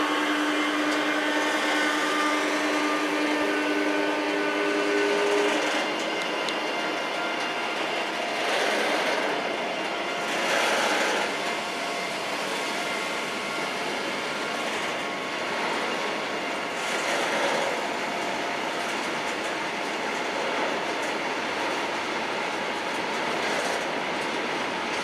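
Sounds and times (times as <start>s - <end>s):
train wheels on rail: 0.0s - 25.0s.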